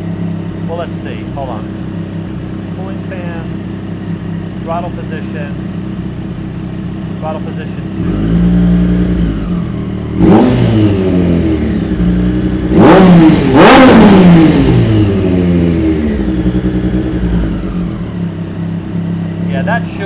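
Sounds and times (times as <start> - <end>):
motorcycle engine high idle: 0.0 - 13.8, 14.4 - 20.0
engine throttle blips: 0.0 - 20.0.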